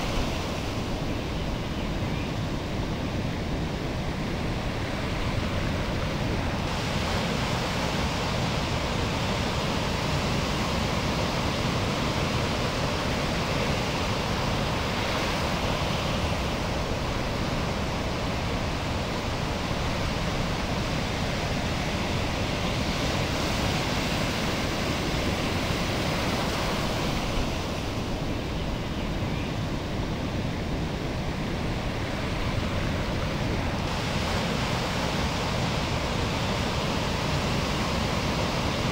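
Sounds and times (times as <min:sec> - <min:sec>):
ocean surf rushing: 0:00.0 - 0:38.9
waves breaking: 0:02.7 - 0:28.9, 0:29.6 - 0:38.9.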